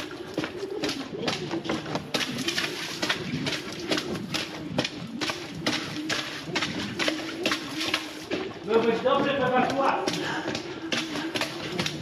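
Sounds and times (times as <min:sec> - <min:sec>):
footsteps splashing through shallow water: 0:00.0 - 0:12.0.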